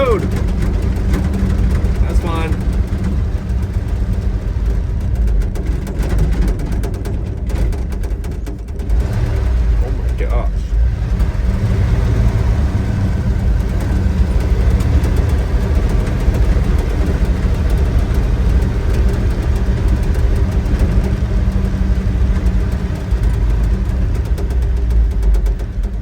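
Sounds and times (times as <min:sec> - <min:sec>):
road noise inside cab: 0:00.0 - 0:26.0
truck engine drone: 0:00.0 - 0:26.0.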